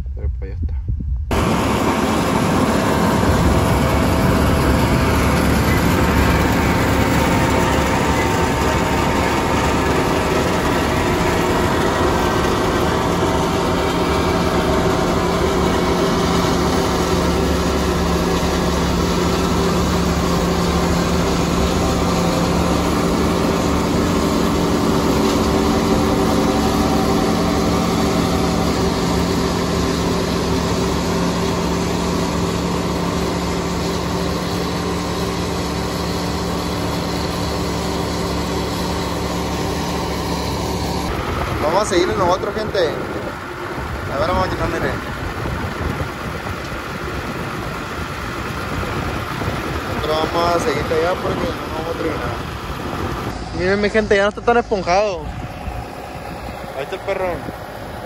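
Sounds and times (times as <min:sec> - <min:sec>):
diesel engine running: 0:01.3 - 0:58.0.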